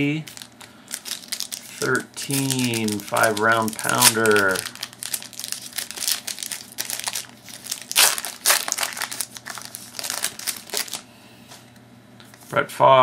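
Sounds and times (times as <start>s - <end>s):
foil wrapper crinkling: 0.3s - 11.0s.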